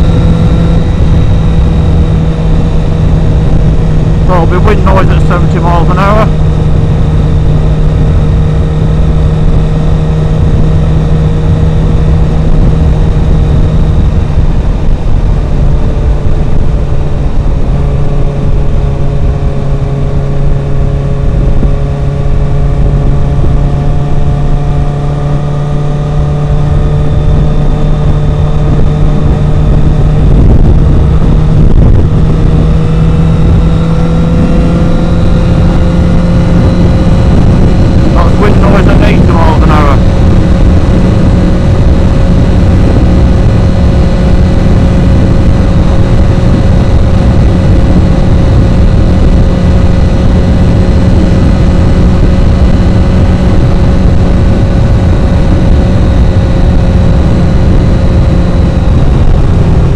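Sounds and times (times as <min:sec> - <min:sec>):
motorcycle engine: 0:00.0 - 0:59.9
wind buffeting microphone: 0:00.0 - 0:59.9.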